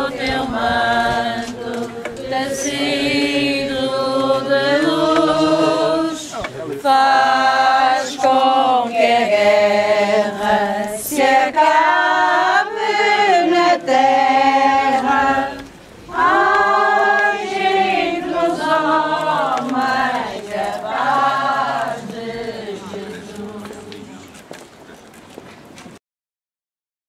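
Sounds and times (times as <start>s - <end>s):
crowd singing a hymn: 0.0s - 24.5s.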